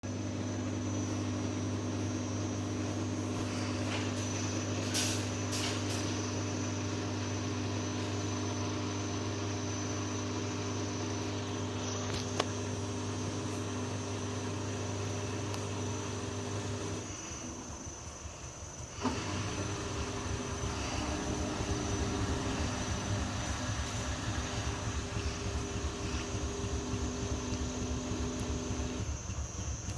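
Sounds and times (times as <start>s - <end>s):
washing machine motor hum: 0.0s - 29.9s.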